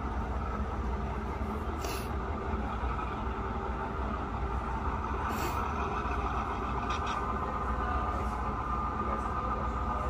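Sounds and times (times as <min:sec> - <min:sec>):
model train hum and rumble: 0:00.0 - 0:10.0
wheels clicking on track: 0:00.0 - 0:10.0.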